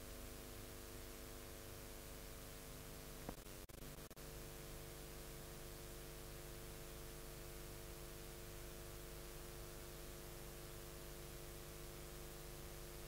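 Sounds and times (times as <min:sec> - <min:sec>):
videotape hiss and hum: 0:00.0 - 0:13.0.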